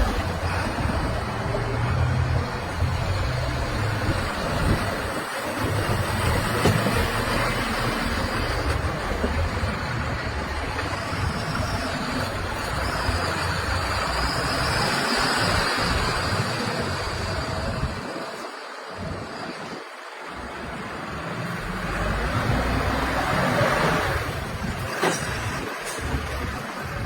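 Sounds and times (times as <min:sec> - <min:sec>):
heavy diesel engine running: 0:00.0 - 0:19.6, 0:20.3 - 0:27.0.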